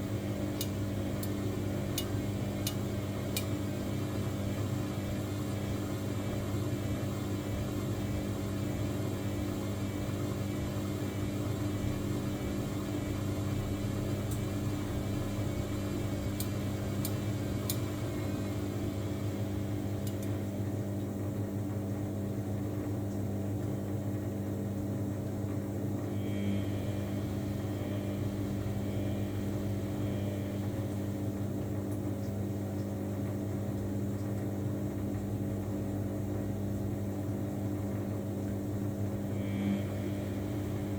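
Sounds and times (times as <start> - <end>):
washing machine humming: 0.0 - 40.9.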